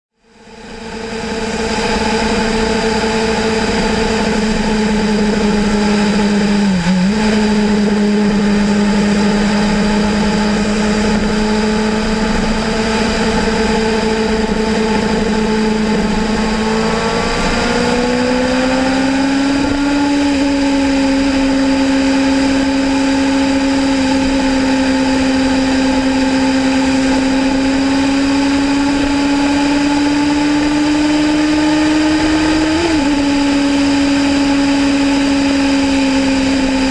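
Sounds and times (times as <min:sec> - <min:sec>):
motorcycle engine running: 0:00.1 - 0:36.9.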